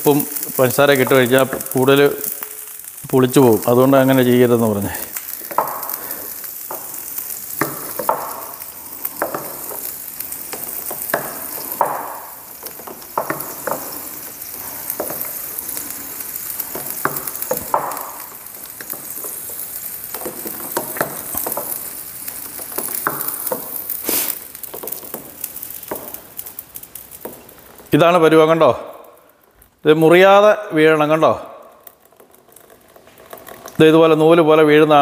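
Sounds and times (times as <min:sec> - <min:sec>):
steady high hiss: 0:00.0 - 0:31.3.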